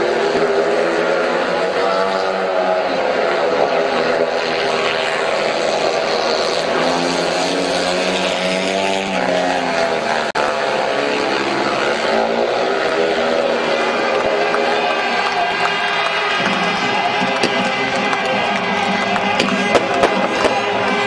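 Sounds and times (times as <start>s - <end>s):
motorcycle engines racing past: 0.0s - 21.0s.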